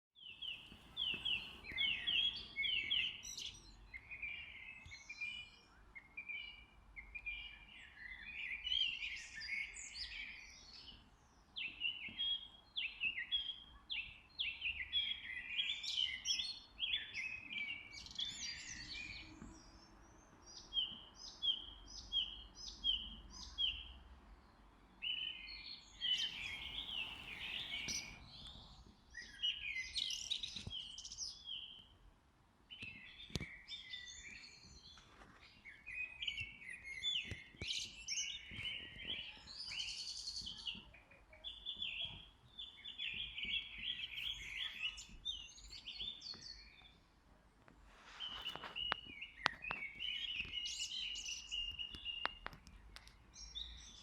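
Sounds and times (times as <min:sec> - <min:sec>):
songbirds singing and chirping: 0:00.1 - 0:54.0.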